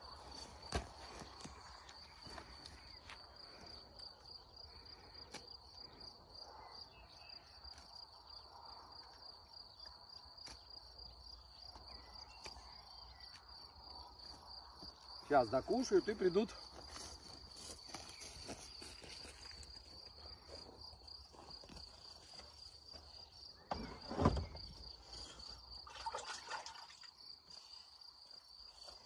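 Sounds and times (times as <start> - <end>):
crickets chirring: 0.0 - 29.0.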